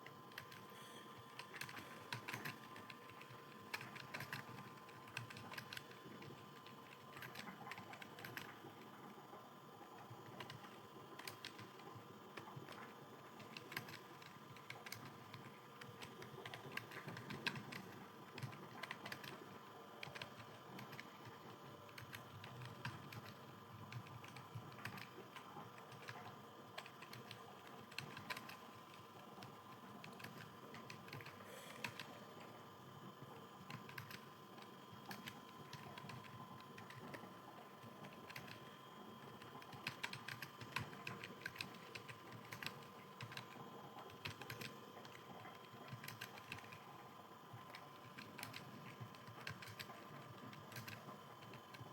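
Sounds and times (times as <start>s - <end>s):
faint steady hum: 0.0s - 51.9s
computer keyboard typing: 0.3s - 9.0s, 10.0s - 32.2s, 33.6s - 51.9s.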